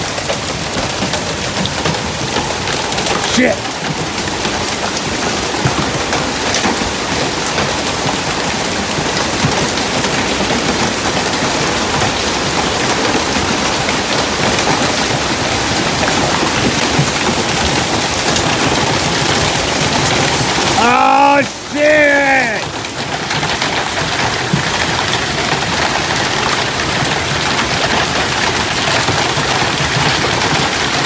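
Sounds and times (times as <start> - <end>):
hailstones striking: 0.0 - 31.0
heavy rain: 0.0 - 31.0.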